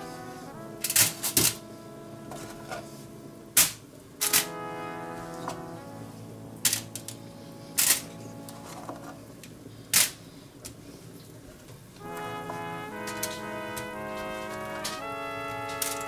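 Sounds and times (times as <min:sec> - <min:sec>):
soft background music: 0:00.0 - 0:09.7, 0:12.0 - 0:16.0.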